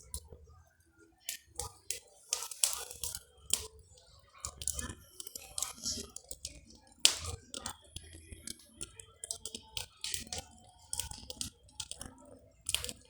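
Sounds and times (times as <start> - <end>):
bonfire crackling: 1.6 - 13.0.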